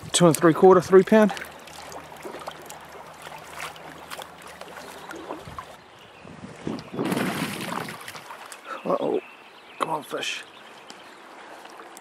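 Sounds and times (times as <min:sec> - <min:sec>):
small water splashes: 0:00.0 - 0:09.0, 0:09.9 - 0:12.0
shallow river water running: 0:00.0 - 0:12.0.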